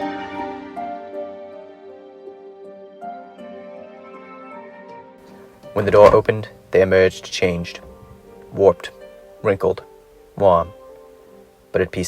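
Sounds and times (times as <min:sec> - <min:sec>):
soft slow background music: 0:00.0 - 0:12.0.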